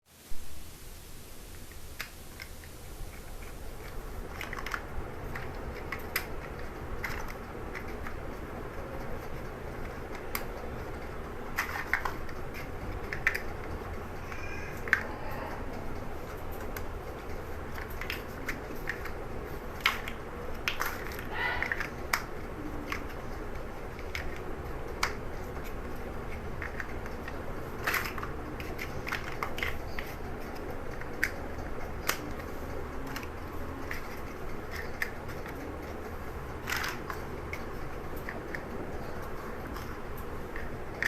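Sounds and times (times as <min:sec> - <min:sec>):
steady low hum: 0:00.1 - 0:41.0
plastic bricks clicking: 0:02.0 - 0:41.0.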